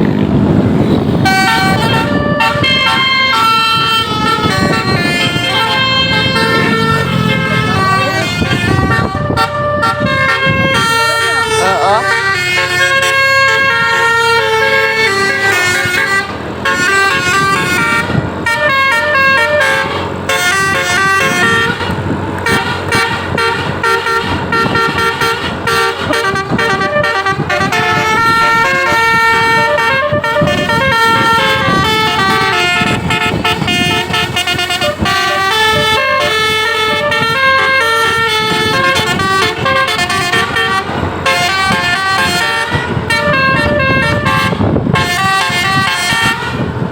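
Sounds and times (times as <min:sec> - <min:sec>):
road vehicle noise: 0:00.0 - 0:46.9
musical bus horn melody: 0:00.1 - 0:46.9.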